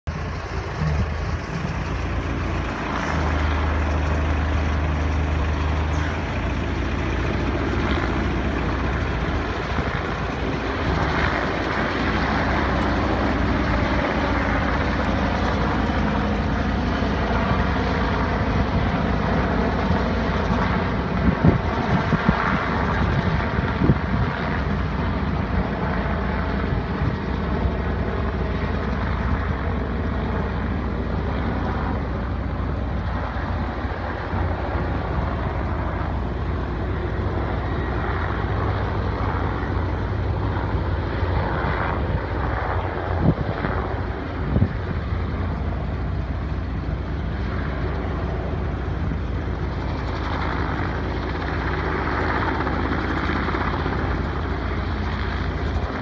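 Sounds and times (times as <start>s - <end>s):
helicopters droning overhead: 0.0s - 56.0s.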